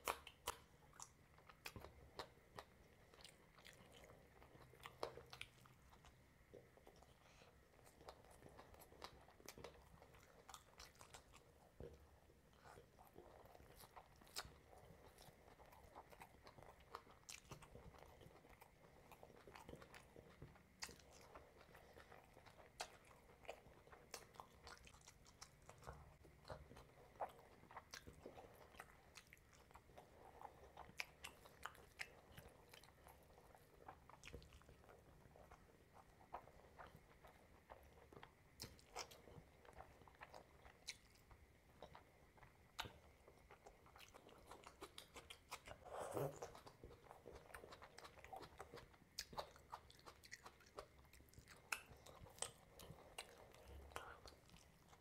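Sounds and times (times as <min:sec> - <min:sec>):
wet chewing mouth clicks: 0:00.0 - 0:55.0.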